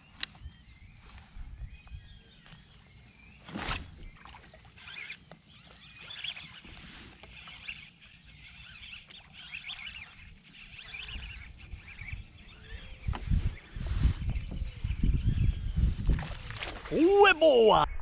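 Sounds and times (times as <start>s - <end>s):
birds chirping and calling: 0.3s - 16.8s.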